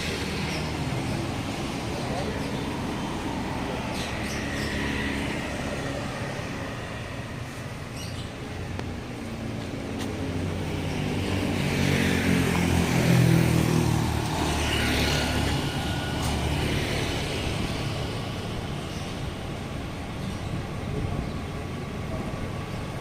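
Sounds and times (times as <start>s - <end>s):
bus engine passing by: 0.0s - 23.0s.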